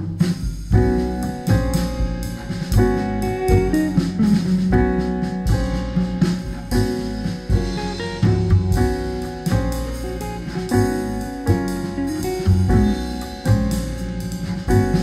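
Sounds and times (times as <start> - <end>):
music with guitar and drums: 0.0 - 15.0.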